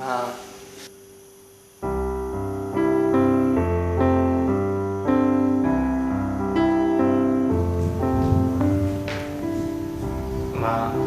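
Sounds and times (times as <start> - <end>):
slow piano chords: 1.8 - 11.0.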